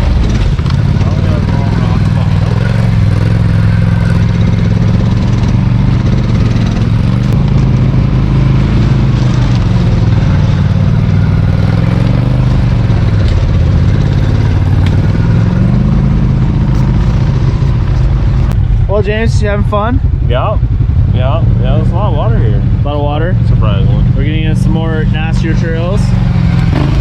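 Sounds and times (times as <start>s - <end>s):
off-road vehicle engine running: 0.0s - 27.0s.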